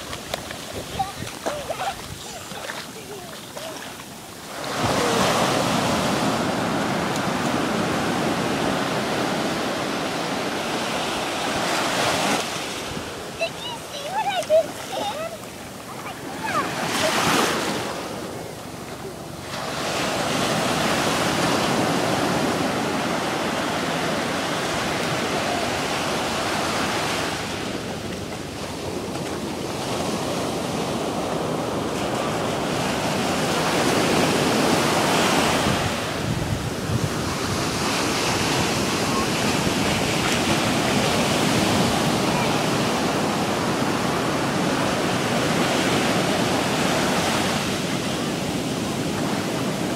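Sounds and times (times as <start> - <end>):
ocean surf breaking on shore: 0.0 - 49.9.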